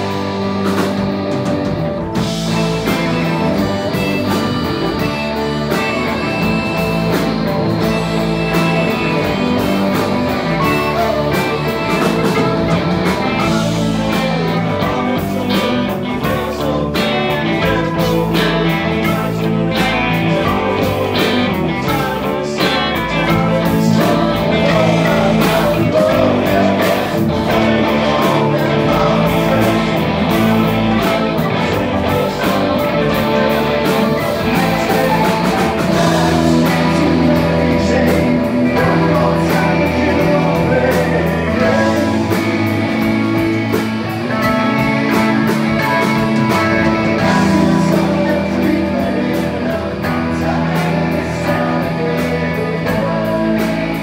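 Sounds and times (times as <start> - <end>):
drum kit: 0.0 - 54.0
electric bass: 0.0 - 54.0
electric guitars: 0.0 - 54.0
man singing: 2.2 - 54.0.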